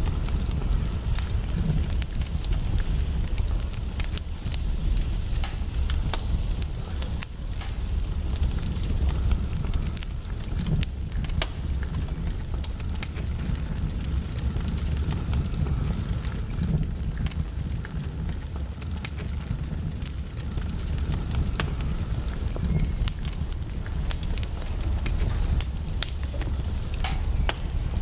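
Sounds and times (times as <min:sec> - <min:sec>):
low fire rumble: 0:00.0 - 0:28.0
wood fire crackling: 0:00.0 - 0:28.0.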